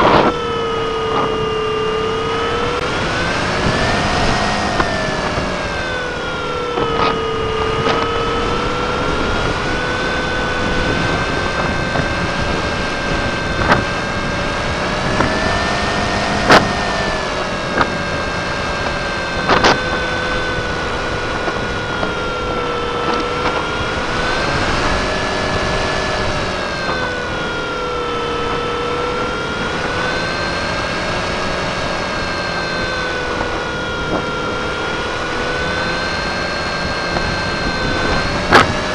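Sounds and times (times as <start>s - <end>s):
model airplane engine running: 0.0s - 38.9s.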